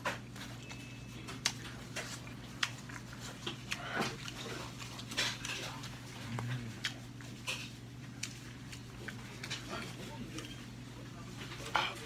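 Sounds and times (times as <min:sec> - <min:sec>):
man chewing with wet smacks: 0:00.0 - 0:12.0
steady low hum: 0:00.0 - 0:12.0.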